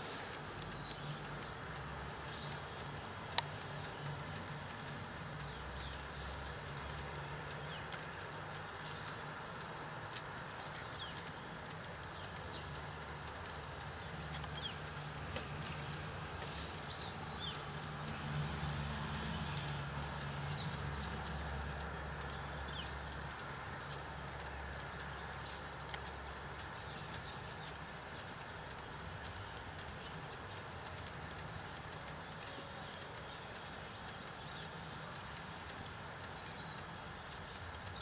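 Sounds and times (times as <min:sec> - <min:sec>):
rain hissing: 0:00.0 - 0:38.0
small birds chipping and calling: 0:00.0 - 0:38.0.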